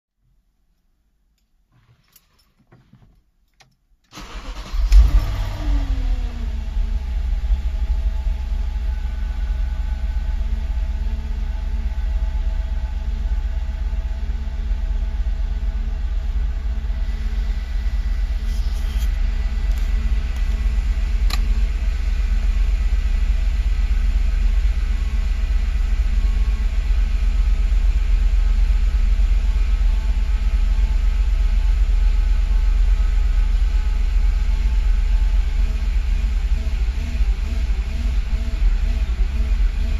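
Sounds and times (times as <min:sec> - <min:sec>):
car engine starting and idling: 0:04.1 - 0:39.9.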